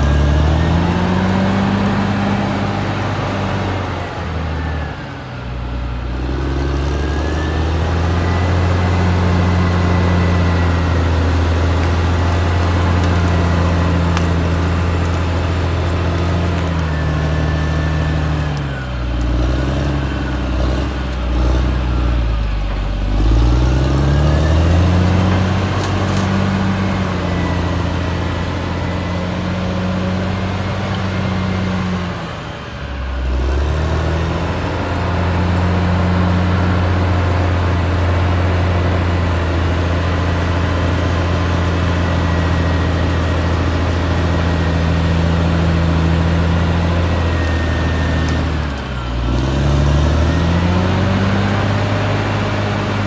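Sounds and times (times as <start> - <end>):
bulldozer diesel engine running hard: 0.0 - 53.0
high whine: 0.0 - 53.0.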